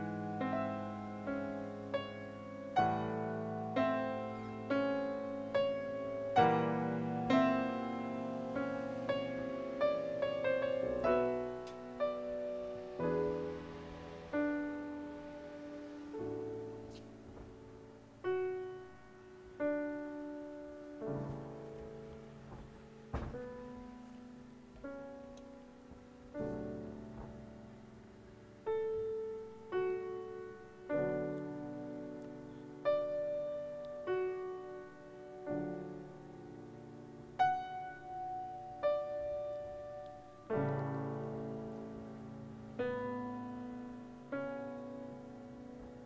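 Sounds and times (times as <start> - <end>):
slow grand piano notes: 0.0 - 46.0.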